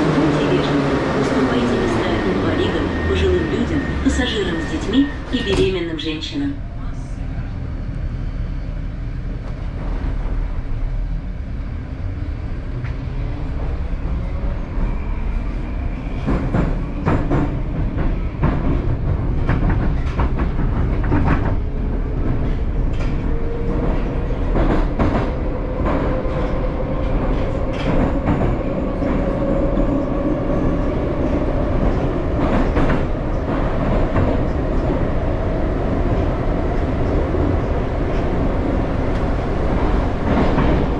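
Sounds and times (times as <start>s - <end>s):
train running rumble: 0.0s - 40.9s.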